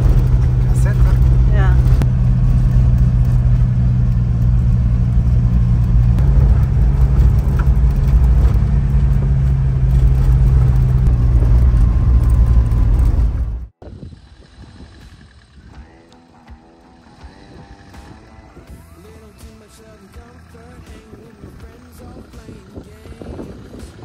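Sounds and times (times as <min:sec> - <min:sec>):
engine drone from inside cab: 0:00.0 - 0:24.0.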